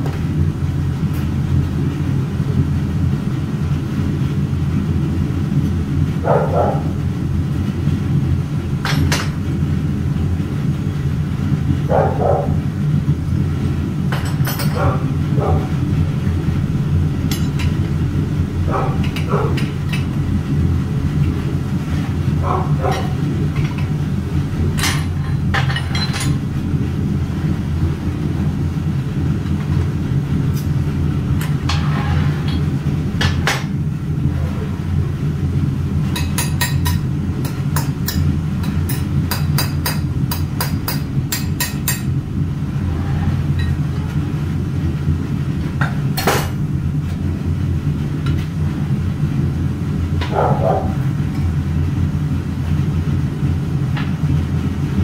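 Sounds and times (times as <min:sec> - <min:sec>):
low machinery drone: 0:00.0 - 0:55.0.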